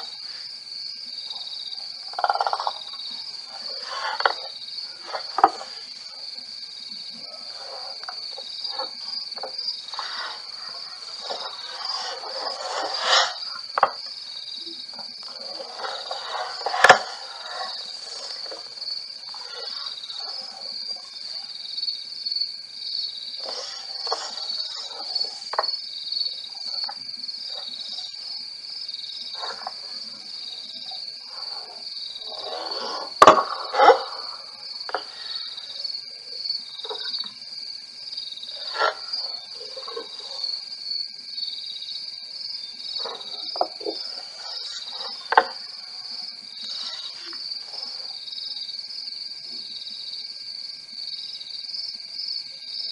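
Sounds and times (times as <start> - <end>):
night insects trilling: 0.0 - 52.9.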